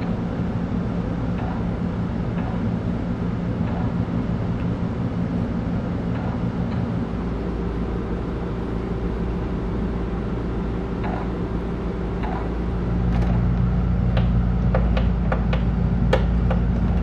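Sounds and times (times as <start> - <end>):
low sustained drone: 0.0 - 17.0.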